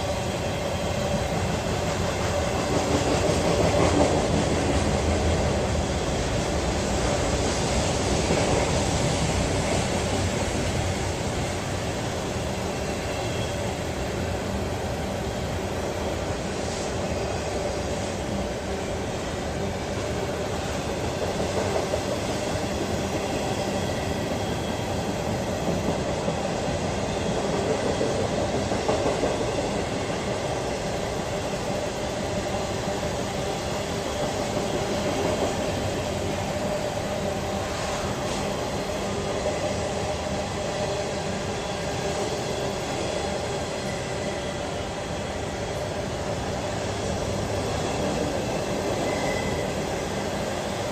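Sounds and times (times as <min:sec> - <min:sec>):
train rumbling on track: 0:00.0 - 0:50.9.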